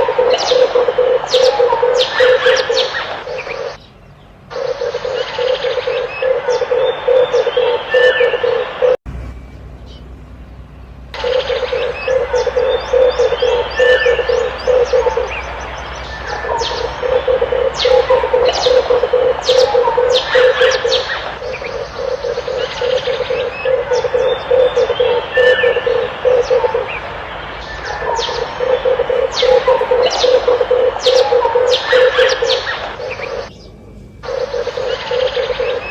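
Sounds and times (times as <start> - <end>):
dove cooing: 0.0 - 3.8, 4.5 - 9.0, 11.2 - 33.5, 34.2 - 35.9
small birds chirping: 0.0 - 35.9.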